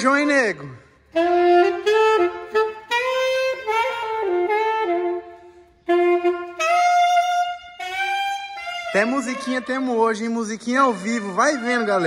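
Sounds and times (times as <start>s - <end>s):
wind instrument melody: 0.0s - 12.0s.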